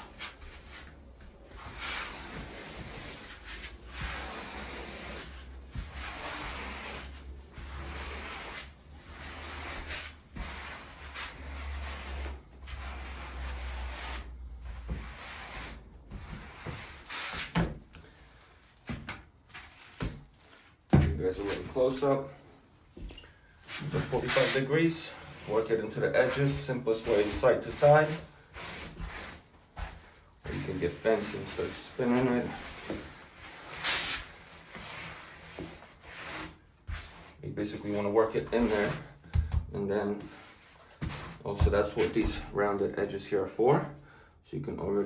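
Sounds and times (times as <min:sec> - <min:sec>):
rubber float scraping grout on tile: 0:00.0 - 0:17.7, 0:23.4 - 0:42.6.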